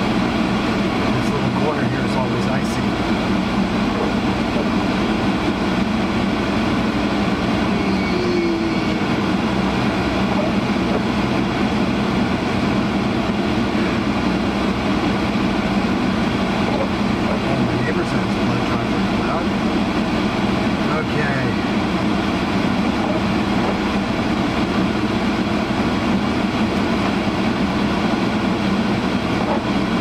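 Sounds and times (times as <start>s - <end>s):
car blower rushing air: 0.0s - 30.0s.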